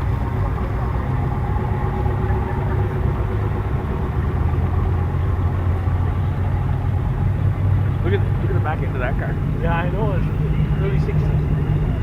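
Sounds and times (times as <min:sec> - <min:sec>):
car engine idling low: 0:00.0 - 0:12.0.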